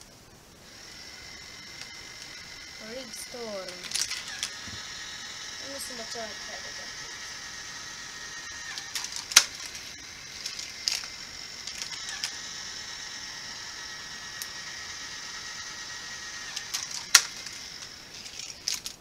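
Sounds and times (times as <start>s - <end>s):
small toy motor whirring: 0.0s - 19.0s.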